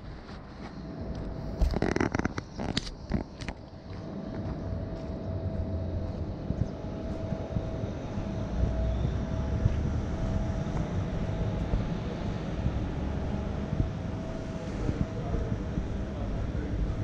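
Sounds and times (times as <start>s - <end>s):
faint steady hum: 0.0s - 17.0s
low engine-like rumble: 0.0s - 17.0s.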